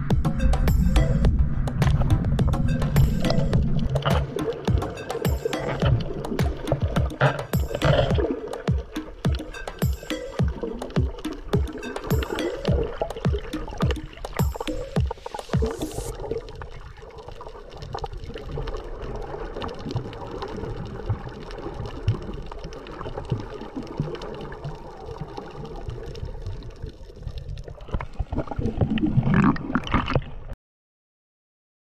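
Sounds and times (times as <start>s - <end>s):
muffled underwater water noise: 0.0s - 30.6s.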